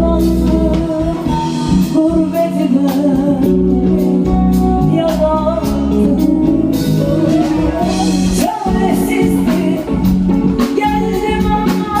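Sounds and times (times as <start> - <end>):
instrumental backing: 0.0 - 12.0.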